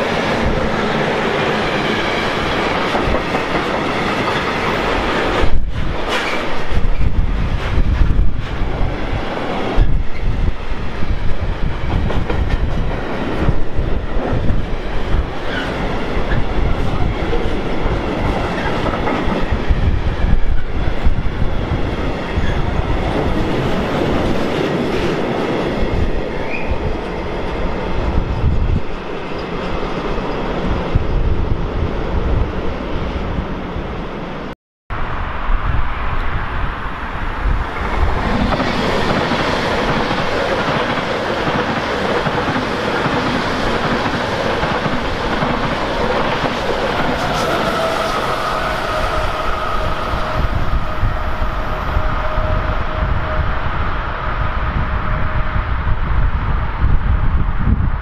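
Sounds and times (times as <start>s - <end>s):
train passing at speed: 0.0s - 58.0s.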